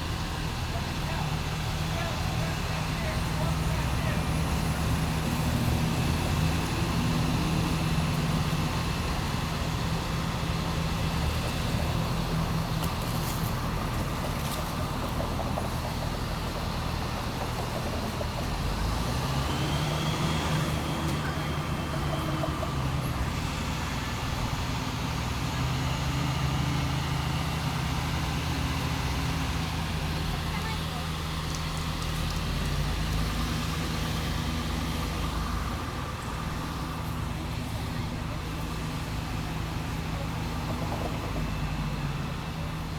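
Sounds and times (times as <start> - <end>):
heavy engines droning: 0.0 - 42.9
street traffic noise: 0.0 - 42.9.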